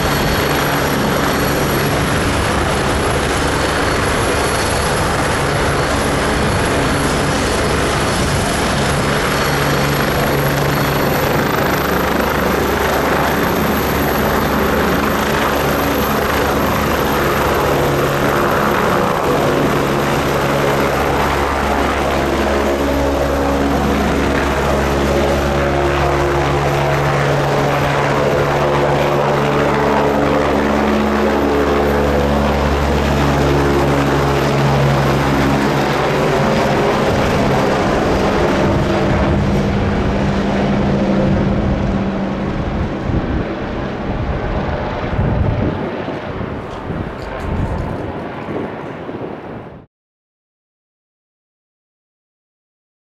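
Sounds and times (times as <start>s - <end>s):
helicopter rotor beat: 0.0s - 49.8s
high turbine whine: 0.0s - 49.8s.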